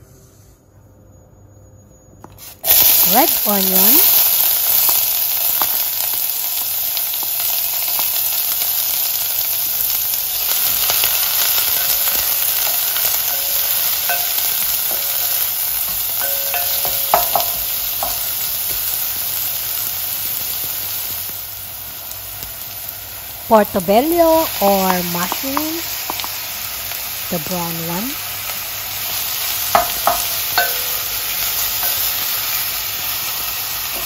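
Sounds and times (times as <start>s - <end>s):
onion sizzling in oil: 2.2s - 34.0s.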